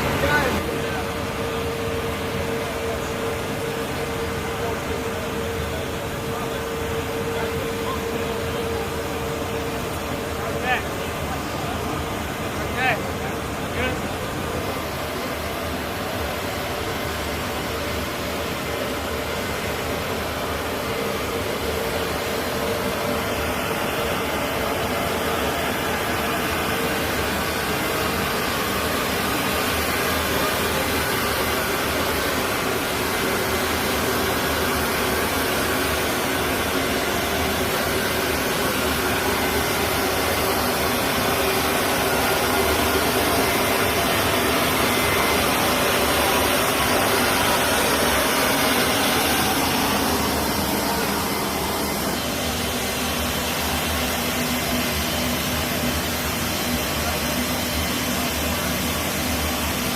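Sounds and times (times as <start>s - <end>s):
loud mechanical drone: 0.0s - 59.9s.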